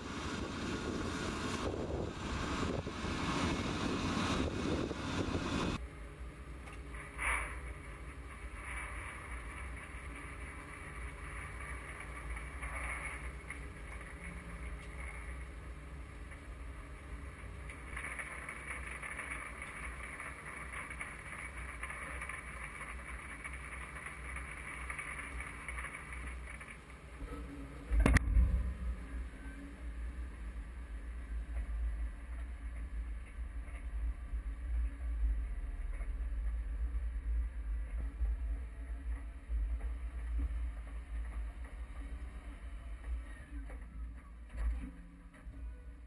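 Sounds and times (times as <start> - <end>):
machinery rumbling: 0.0 - 46.0.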